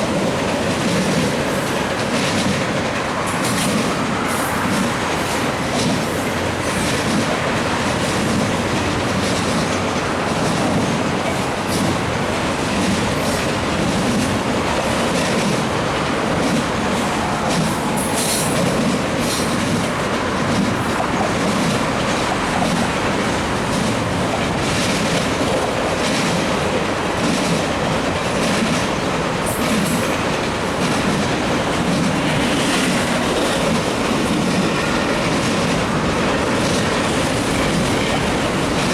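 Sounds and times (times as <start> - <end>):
train wheels rumbling on rails: 0.0 - 38.9
wheels clicking over rail joints: 0.0 - 38.9.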